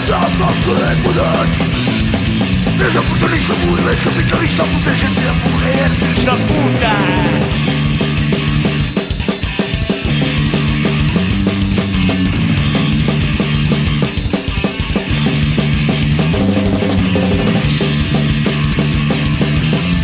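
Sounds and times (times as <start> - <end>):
distorted guitar and bass riffing: 0.0 - 20.0
fast pounding drums: 0.0 - 20.0.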